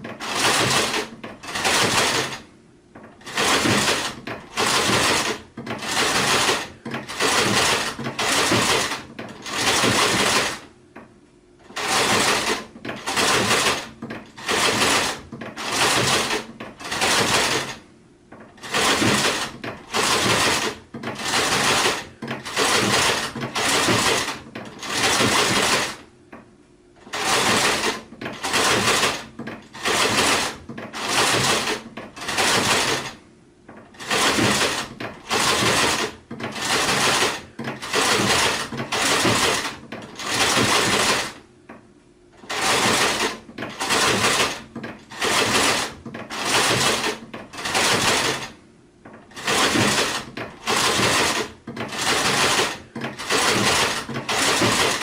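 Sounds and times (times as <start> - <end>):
sewing machine stitching: 0.0 - 10.7, 11.6 - 26.1, 27.0 - 41.5, 42.4 - 55.0.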